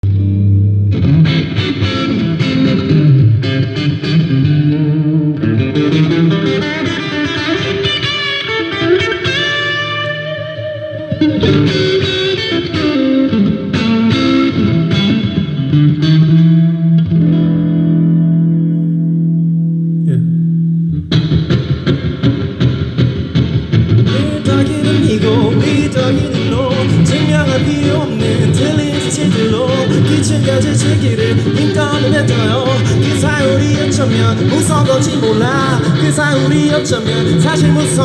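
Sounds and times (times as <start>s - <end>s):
electric guitar through effects: 0.0s - 38.0s
live rock band instrumental: 0.2s - 18.5s, 21.1s - 38.0s.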